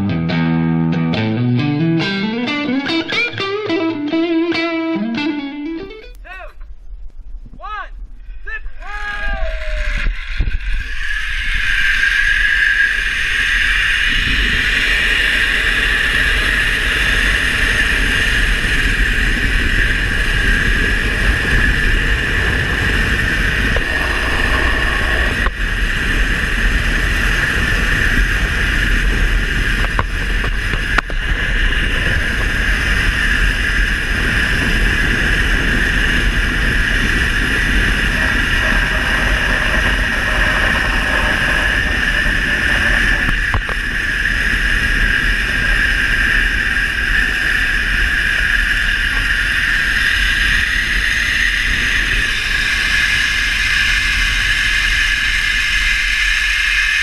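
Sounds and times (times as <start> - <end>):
wind and road noise: 5.8 - 57.0
wind buffeting microphone: 6.2 - 57.0
motorcycle engine drone: 9.6 - 57.0.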